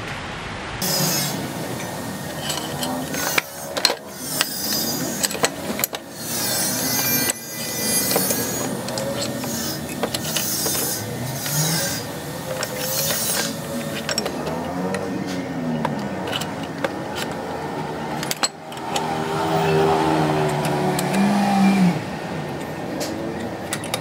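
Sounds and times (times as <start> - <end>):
steady background noise: 0.0 - 24.0
spanner clicking on metal: 0.8 - 21.5, 22.6 - 24.0.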